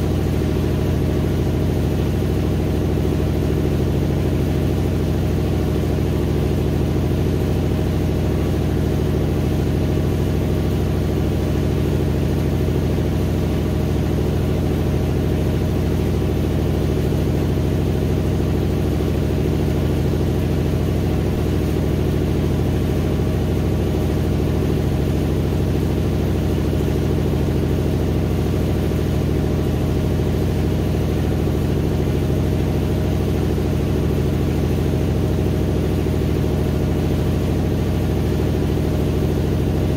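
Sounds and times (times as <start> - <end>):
washing machine spinning hum: 0.0 - 39.9.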